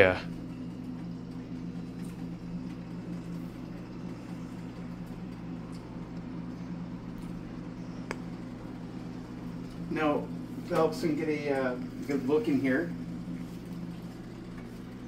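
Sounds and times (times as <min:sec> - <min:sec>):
range hood fan humming: 0:00.0 - 0:15.0.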